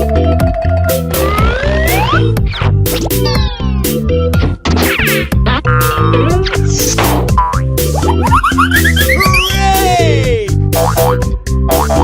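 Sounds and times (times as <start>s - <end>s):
electronic music with steady beat: 0.9s - 12.0s.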